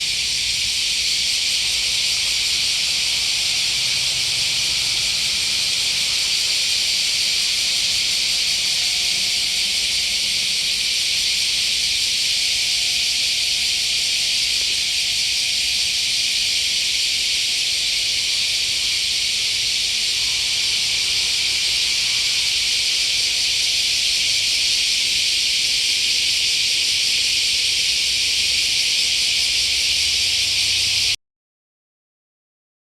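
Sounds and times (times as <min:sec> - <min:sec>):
insects chorus hissing: 0:00.0 - 0:31.2.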